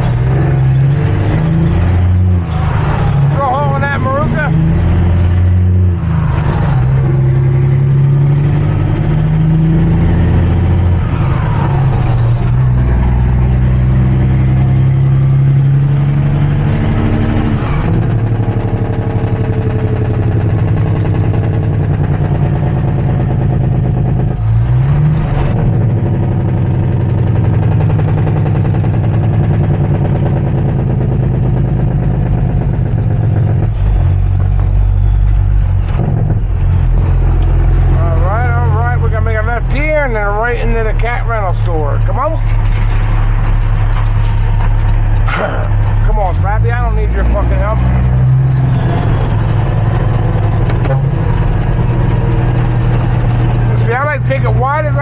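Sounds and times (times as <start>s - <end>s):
truck diesel engine shifting gears: 0.0s - 55.0s.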